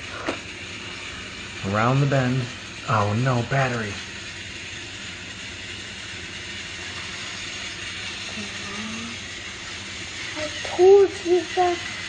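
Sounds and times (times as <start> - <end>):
toy train motors running: 0.0 - 12.0.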